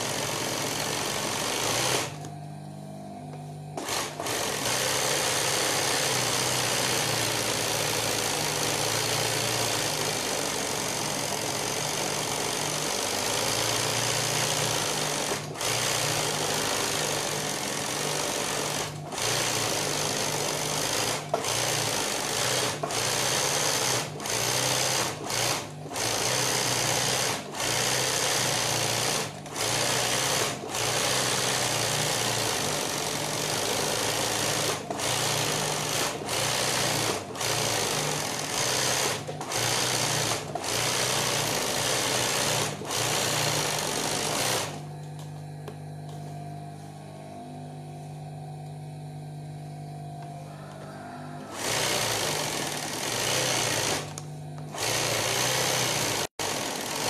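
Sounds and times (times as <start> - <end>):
sewing machine stitching: 0.0 - 2.3, 3.8 - 44.8, 51.4 - 57.0
motor humming: 0.0 - 57.0.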